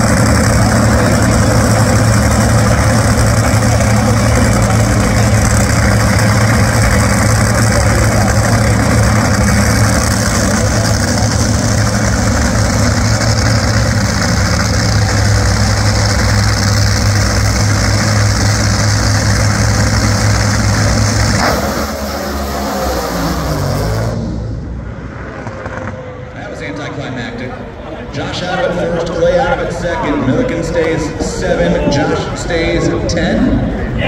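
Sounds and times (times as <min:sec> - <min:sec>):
dragster engines roaring: 0:00.0 - 0:34.0.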